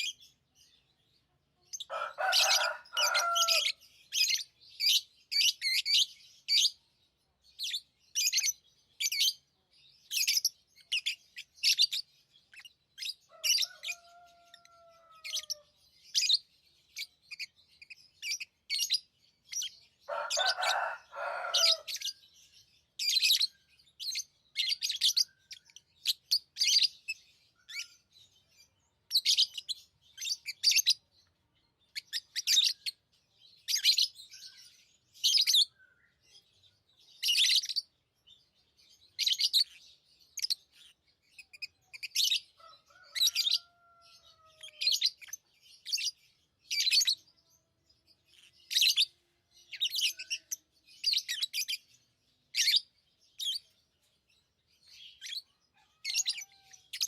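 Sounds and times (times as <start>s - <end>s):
lovebirds chirping: 0.0s - 57.0s.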